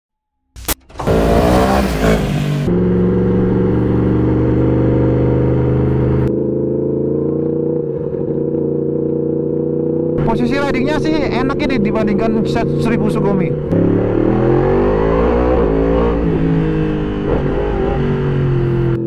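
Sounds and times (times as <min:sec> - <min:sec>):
motorcycle engine revving: 0:00.7 - 0:19.0.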